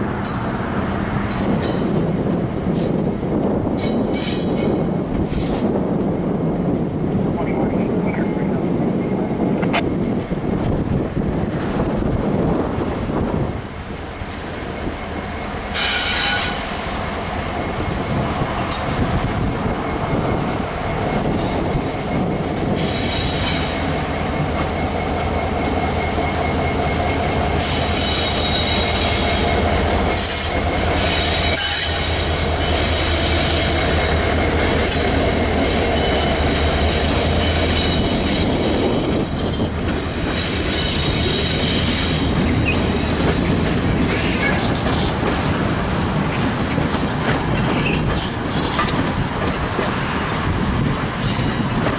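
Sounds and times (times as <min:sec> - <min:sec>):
low rumble of train cars: 0:00.0 - 0:51.9
train wheels squealing on rails: 0:00.0 - 0:51.9.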